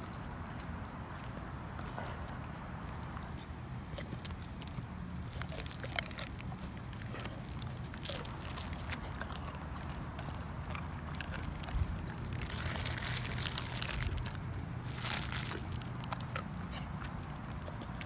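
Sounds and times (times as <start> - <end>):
dog chewing fish: 0.0 - 18.0
low steady rumble: 0.0 - 18.0.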